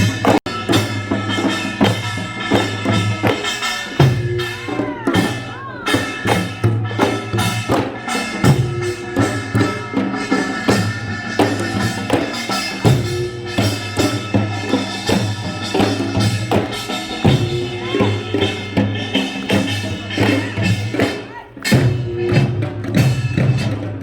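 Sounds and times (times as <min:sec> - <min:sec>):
drums and percussion beating: 0:00.0 - 0:24.0.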